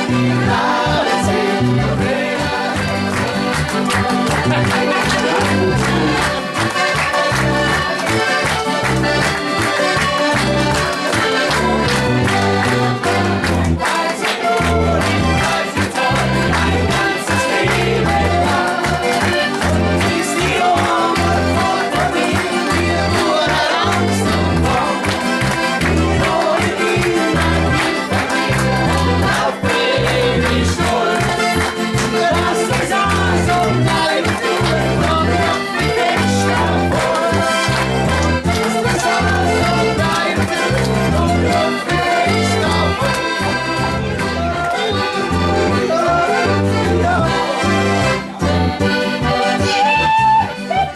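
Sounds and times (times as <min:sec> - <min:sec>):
accordion: 0:00.0 - 0:50.9
live folk-pop band: 0:00.0 - 0:50.9.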